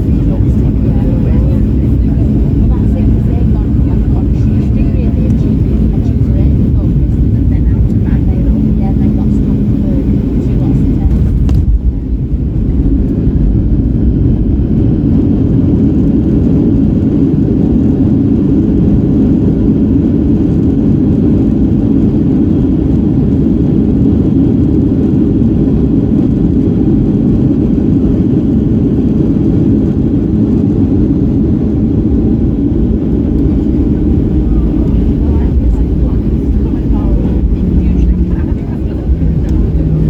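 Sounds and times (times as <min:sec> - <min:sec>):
airplane cabin jet engine rush: 0:00.0 - 0:40.0.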